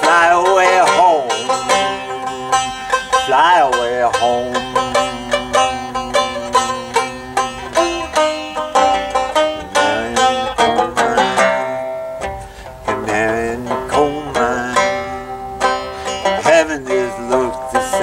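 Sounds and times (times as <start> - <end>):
banjo picking: 0.0 - 18.0.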